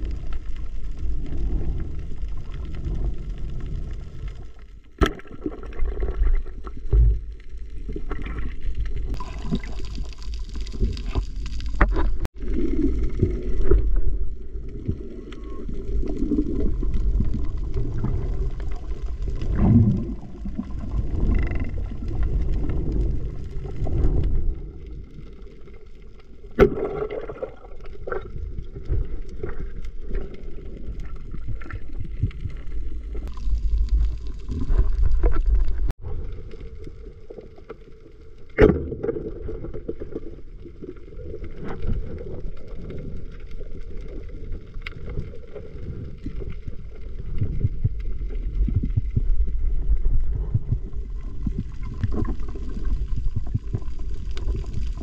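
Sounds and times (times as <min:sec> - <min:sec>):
underwater water rumble: 0:00.0 - 0:55.0.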